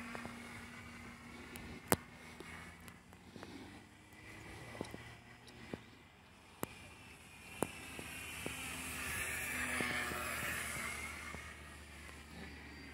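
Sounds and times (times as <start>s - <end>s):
model plane motor buzzing: 0.0s - 12.9s.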